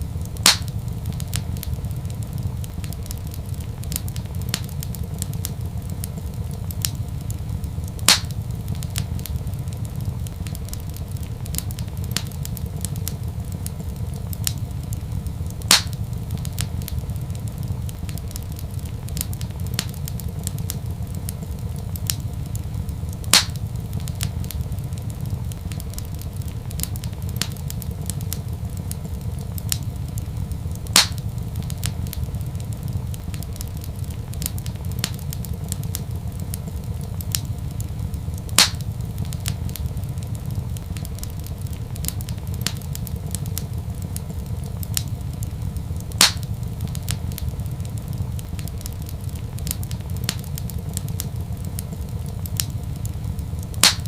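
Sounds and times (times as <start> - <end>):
loud sharp pops of fire: 0.0 - 54.0
wood fire crackling: 0.0 - 54.0.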